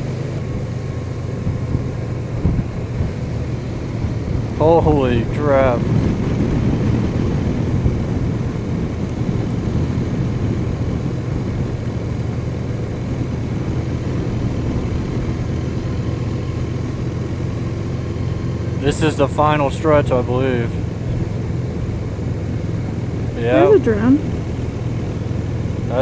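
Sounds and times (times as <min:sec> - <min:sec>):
motorcycle engine drone: 0:00.0 - 0:26.0
road and wind noise: 0:00.0 - 0:26.0.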